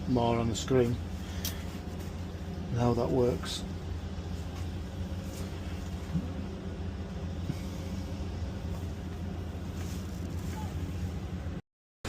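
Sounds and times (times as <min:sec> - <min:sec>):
diesel engine idling: 0:00.0 - 0:11.6.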